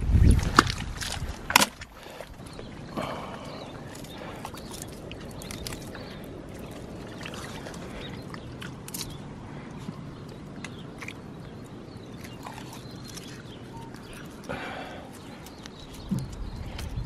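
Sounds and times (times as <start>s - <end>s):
hand squelching through wet mud: 0.2s - 9.4s, 10.2s - 17.0s.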